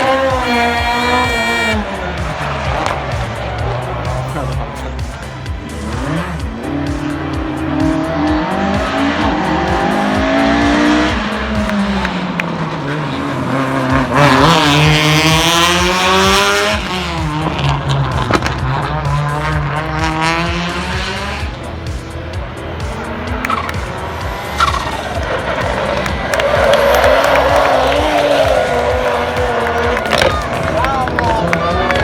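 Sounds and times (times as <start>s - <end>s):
rally car engines revving past: 0.0s - 32.0s.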